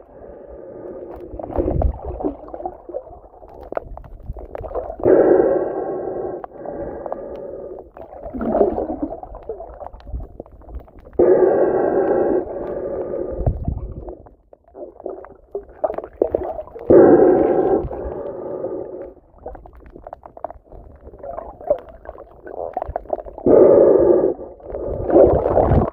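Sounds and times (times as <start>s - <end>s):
snorkeler breathing underwater: 0.0s - 10.3s, 10.9s - 19.9s, 20.8s - 25.9s
water movement: 0.0s - 25.9s
underwater crackling: 0.8s - 25.9s.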